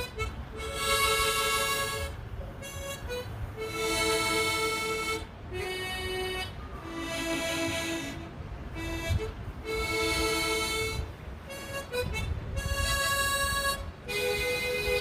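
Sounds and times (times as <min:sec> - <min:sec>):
low outdoor rumble: 0:00.0 - 0:15.0
solo harmonica melody: 0:00.0 - 0:15.0.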